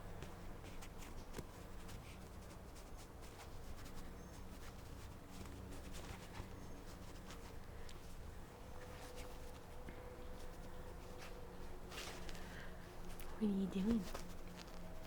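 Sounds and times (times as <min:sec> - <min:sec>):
low steady hum: 0:00.0 - 0:15.0
puppy paws tapping and scratching: 0:00.1 - 0:15.0.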